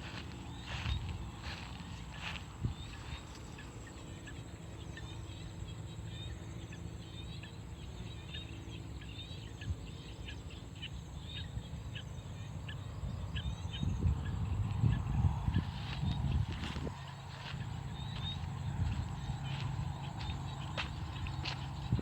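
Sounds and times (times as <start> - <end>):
low steady rumble: 0.0 - 22.0
small birds chirping: 0.0 - 22.0.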